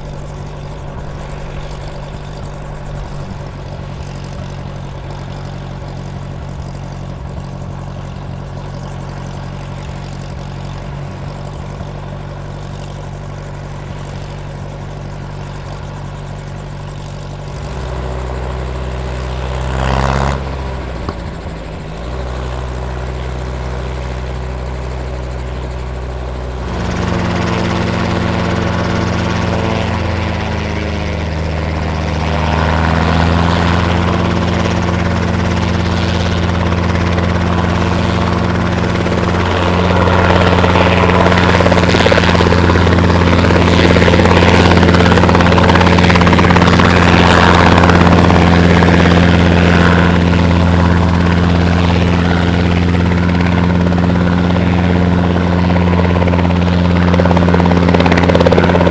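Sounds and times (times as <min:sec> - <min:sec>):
helicopter engine and rotor: 0:00.0 - 0:58.9.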